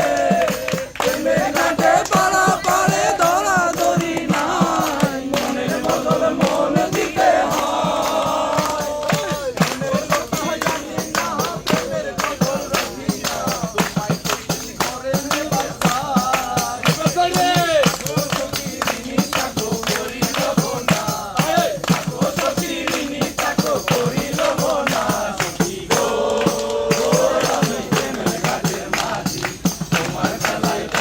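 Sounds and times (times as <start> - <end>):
fast percussion beat: 0.0 - 31.0
voices singing together: 0.0 - 31.0.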